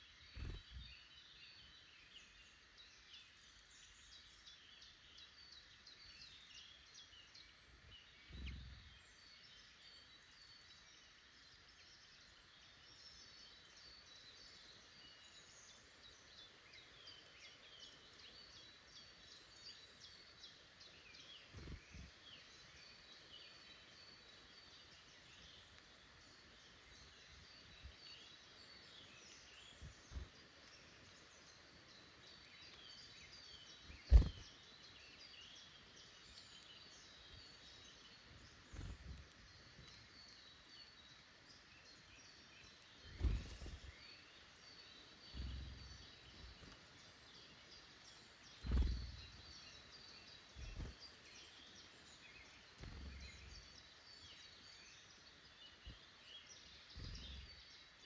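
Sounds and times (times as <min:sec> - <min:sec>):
birds chirping and singing: 0:00.0 - 0:02.4, 0:03.9 - 0:09.6, 0:16.4 - 0:57.8
faint steady hiss: 0:00.0 - 0:58.0.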